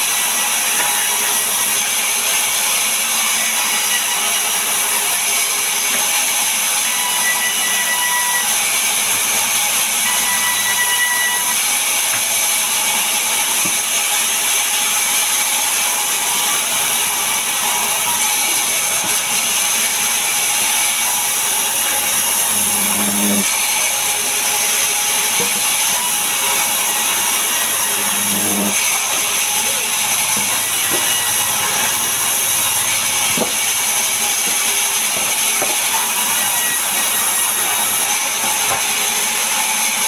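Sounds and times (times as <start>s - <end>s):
band saw cutting timber: 0.0s - 40.0s.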